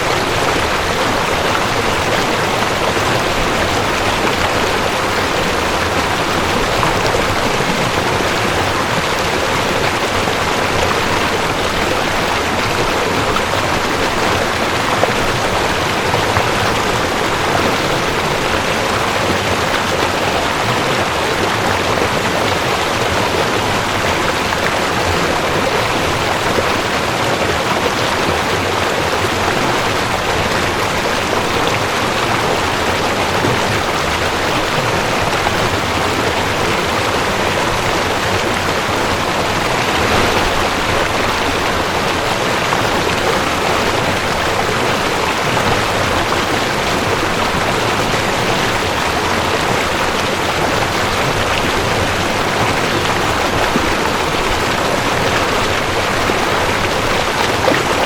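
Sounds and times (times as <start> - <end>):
mountain stream rushing over rocks: 0.0 - 58.0.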